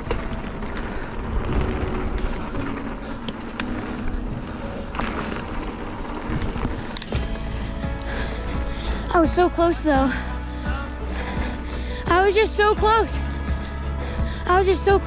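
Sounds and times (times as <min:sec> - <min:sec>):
bike clicks and rattles: 0:00.0 - 0:14.4
bike tyres rolling over dirt: 0:00.0 - 0:15.0
wind noise: 0:00.0 - 0:15.0.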